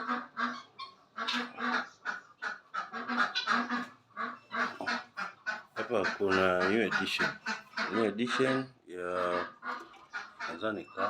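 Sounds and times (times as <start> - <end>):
fowl honking calls: 0.0 - 11.0.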